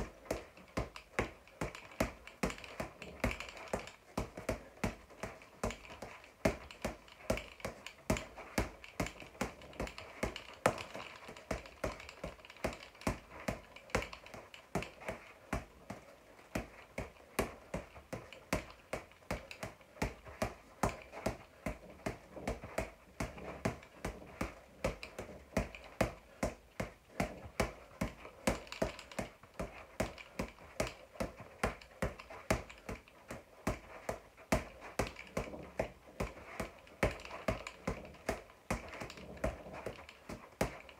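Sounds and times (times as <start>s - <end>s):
boxing gloves punching a ball: 0.0s - 40.9s.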